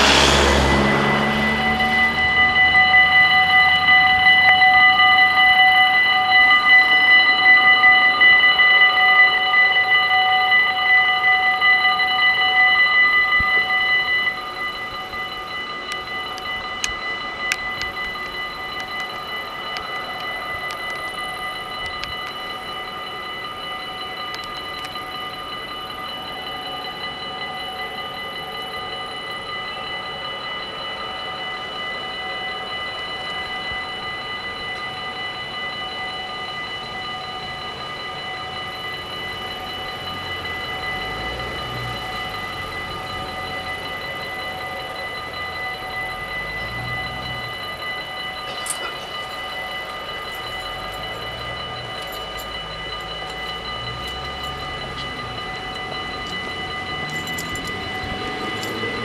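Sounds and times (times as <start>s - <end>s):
faint bell ringing: 0.0s - 59.0s
level-crossing warning bells: 0.0s - 59.0s.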